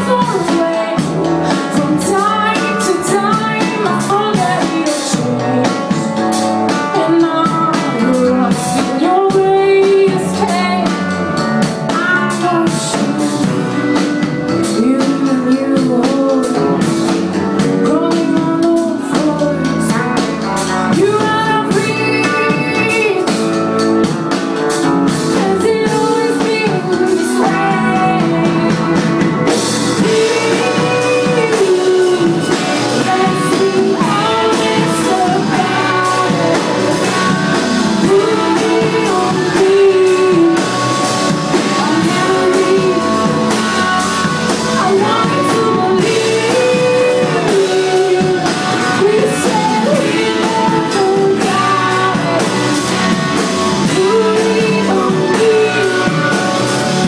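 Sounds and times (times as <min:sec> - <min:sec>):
drum kit: 0:00.0 - 0:57.0
electric guitars: 0:00.0 - 0:57.0
woman singing: 0:00.0 - 0:57.0.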